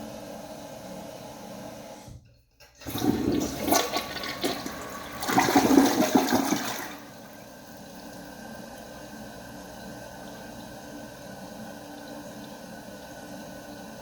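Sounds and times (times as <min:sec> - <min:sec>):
toilet flushing: 0:00.0 - 0:14.0.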